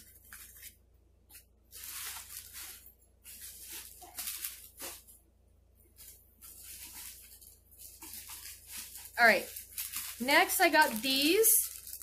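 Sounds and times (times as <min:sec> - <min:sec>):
packaging rustling and crinkling: 0:00.0 - 0:05.2, 0:05.9 - 0:12.0.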